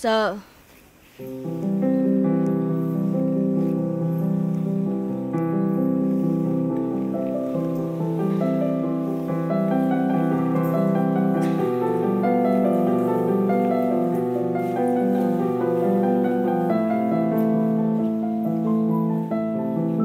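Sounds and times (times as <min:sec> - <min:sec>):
slow piano chords: 0:01.2 - 0:20.0.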